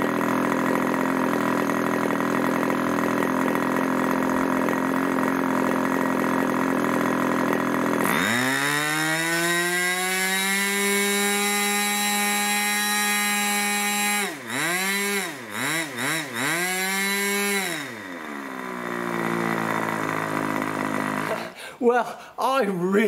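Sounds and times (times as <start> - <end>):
model engine high-pitched whine: 0.0 - 21.6.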